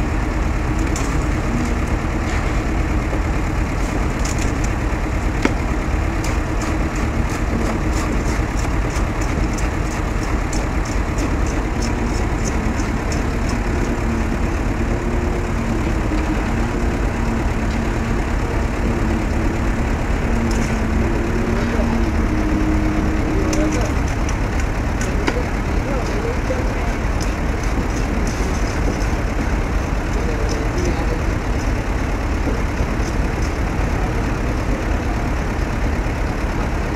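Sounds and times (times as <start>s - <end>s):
heavy engine rumbling: 0.0s - 36.9s.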